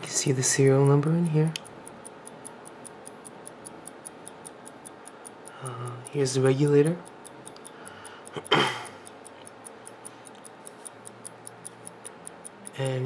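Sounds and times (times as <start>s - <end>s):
pocket watch ticking: 0.0s - 13.0s.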